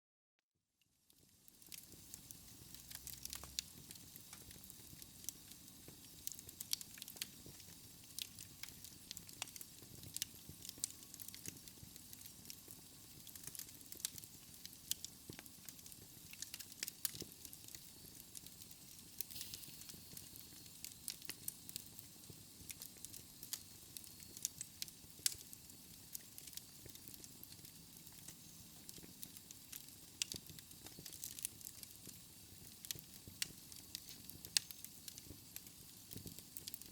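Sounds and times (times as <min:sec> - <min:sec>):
wood fire crackling: 0:01.0 - 0:36.9.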